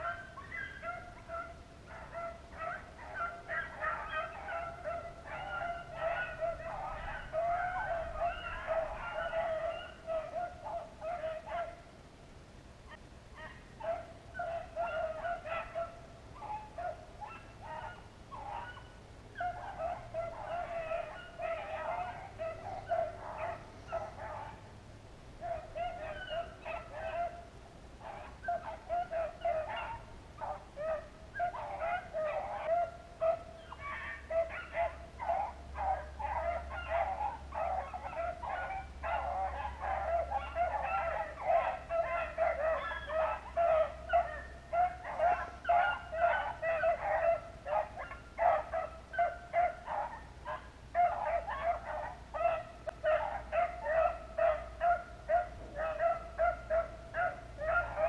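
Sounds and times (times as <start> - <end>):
hounds baying: 0.0 - 12.0, 12.9 - 58.0.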